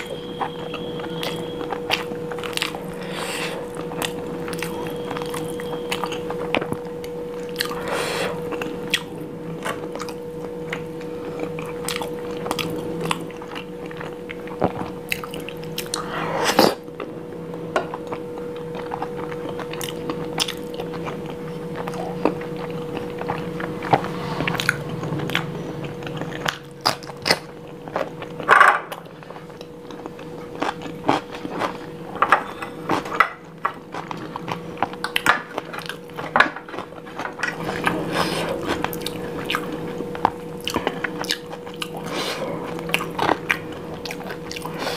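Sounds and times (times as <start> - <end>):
faint steady hum: 0.0 - 44.9
person chewing food: 0.0 - 44.9.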